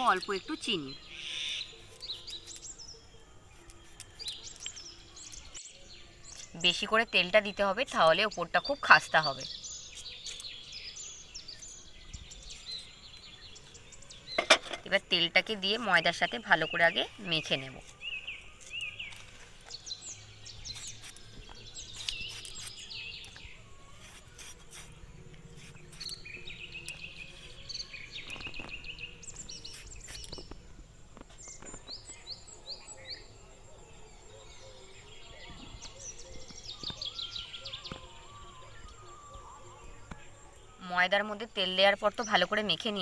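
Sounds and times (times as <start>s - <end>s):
insects: 0.0s - 43.0s
small birds chirping: 0.0s - 43.0s.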